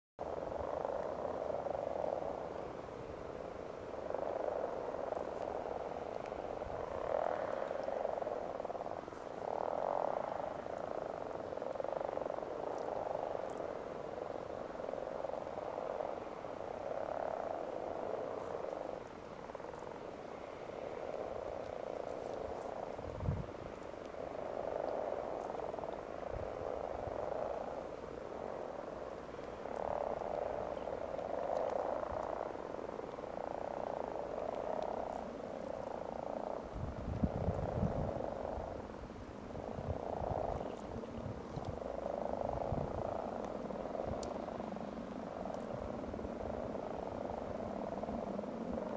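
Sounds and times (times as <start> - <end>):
frogs croaking in chorus: 0.2 - 48.9.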